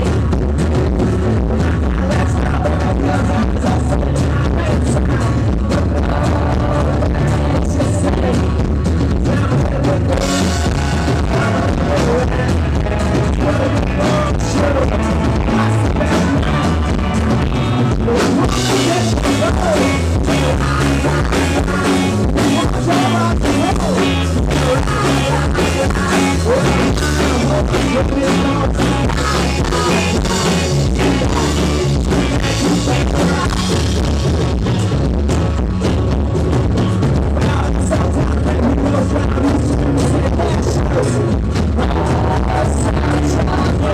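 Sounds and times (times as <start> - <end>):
man singing: 0.0 - 34.7, 37.0 - 43.9
bass guitar: 0.0 - 43.9
drum kit: 0.0 - 43.9
electric guitar: 0.0 - 43.9.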